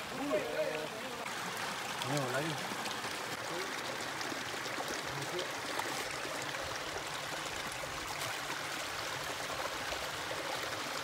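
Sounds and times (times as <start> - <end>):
stream flowing over stones: 0.0 - 11.0.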